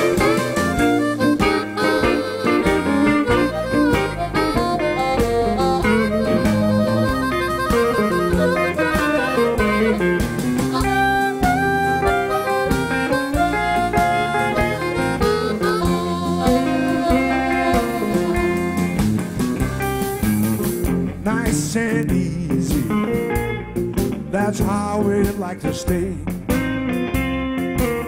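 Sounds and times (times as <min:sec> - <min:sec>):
electric blues band playing: 0:00.0 - 0:28.0.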